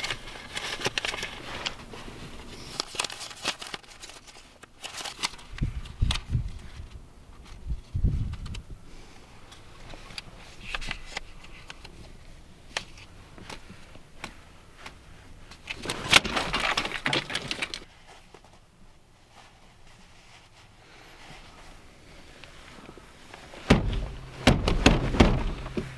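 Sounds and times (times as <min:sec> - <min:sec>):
rustling and scraping: 0:00.0 - 0:25.9.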